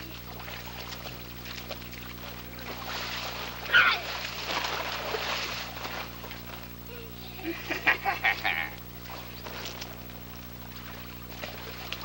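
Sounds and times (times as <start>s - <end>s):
water splashing in pool: 0.0s - 6.9s, 7.6s - 12.0s.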